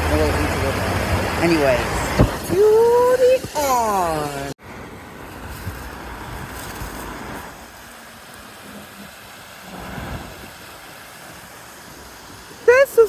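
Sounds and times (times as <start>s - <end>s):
water rushing in a stream: 0.0s - 13.0s.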